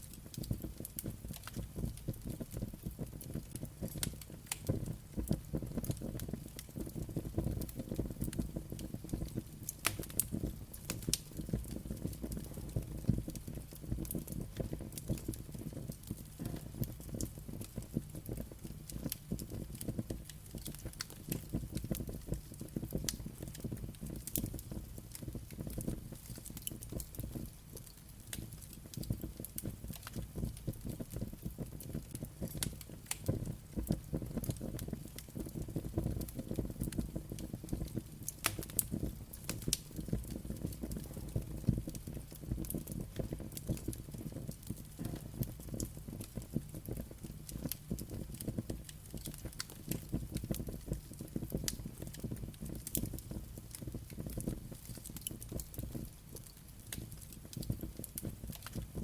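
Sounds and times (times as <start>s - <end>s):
low rumble of burning: 0.0s - 59.0s
wood fire crackling and popping: 0.0s - 59.0s.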